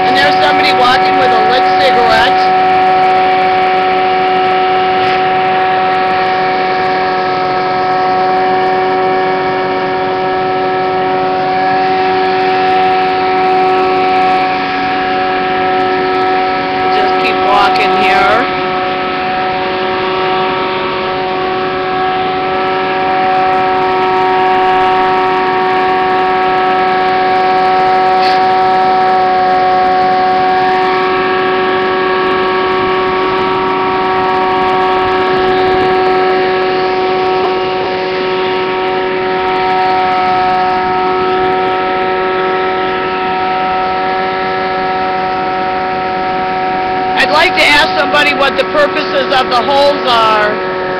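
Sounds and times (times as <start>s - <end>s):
truck blower droning: 0.0s - 50.9s.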